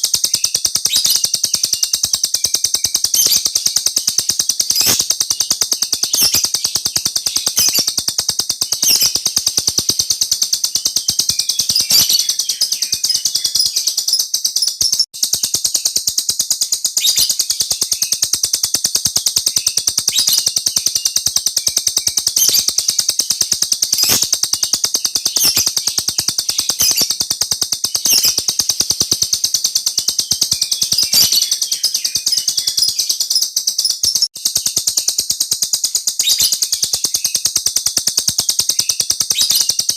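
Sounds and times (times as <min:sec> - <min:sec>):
cage bird singing rapid chirps: 0:00.0 - 0:39.9.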